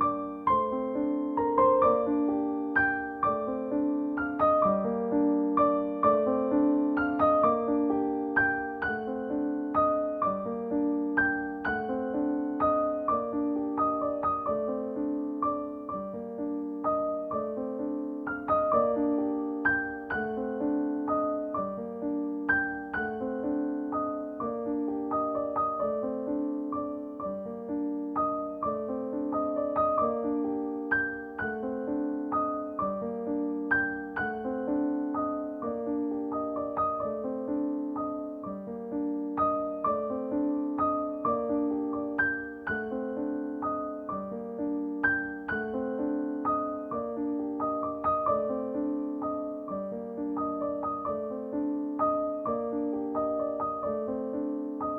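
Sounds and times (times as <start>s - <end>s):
gentle piano music: 0.0s - 54.9s.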